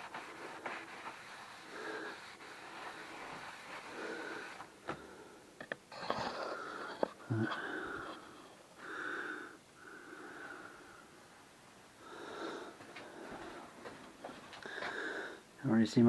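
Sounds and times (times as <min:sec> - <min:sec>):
person breathing close to microphone: 0:00.0 - 0:11.2, 0:12.0 - 0:15.5.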